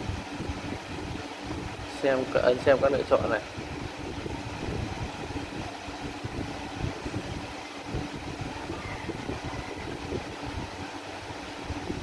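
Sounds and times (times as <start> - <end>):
faint steady hum: 0.0 - 12.0
low background rumble: 0.0 - 12.0.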